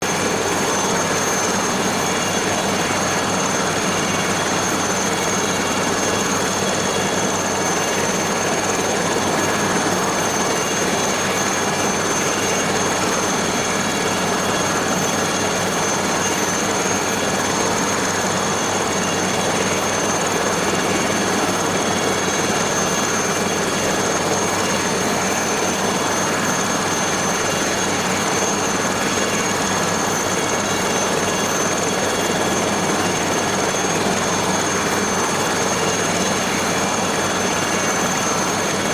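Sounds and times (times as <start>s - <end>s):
helicopter engine and rotor noise: 0.0s - 38.9s
helicopter turbine whine: 0.0s - 38.9s.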